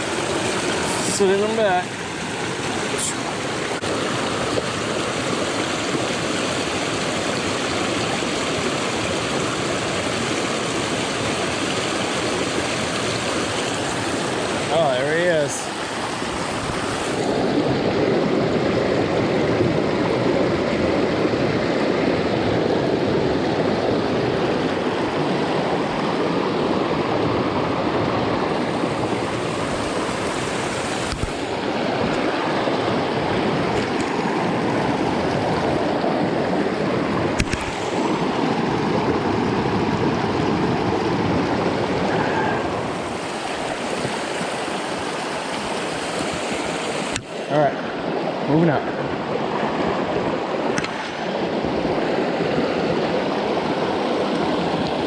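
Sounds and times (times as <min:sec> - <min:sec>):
brook splashing over boulders: 0:00.0 - 0:55.0.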